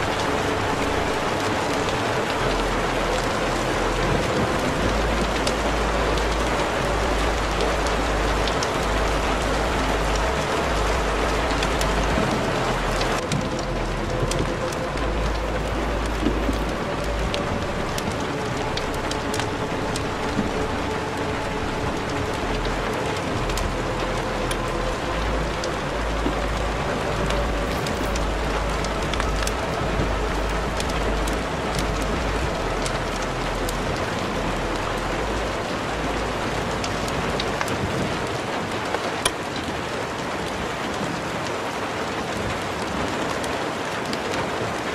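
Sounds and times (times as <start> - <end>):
faint slow song: 0.0 - 44.9.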